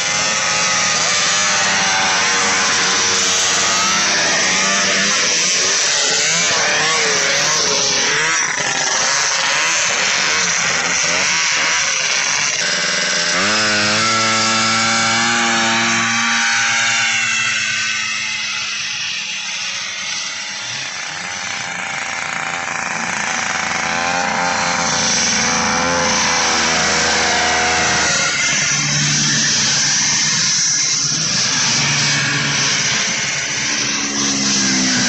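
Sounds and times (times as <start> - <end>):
snowmobile engine revving: 0.0 - 35.0
snowmobile launching at full throttle: 0.0 - 35.0.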